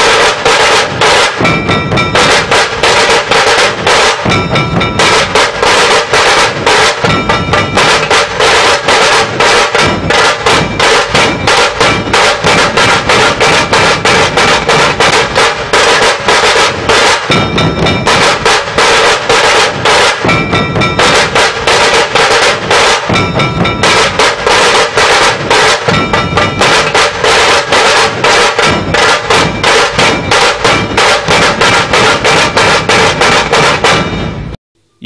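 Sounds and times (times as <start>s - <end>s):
dhol drums beating: 0.0s - 34.6s.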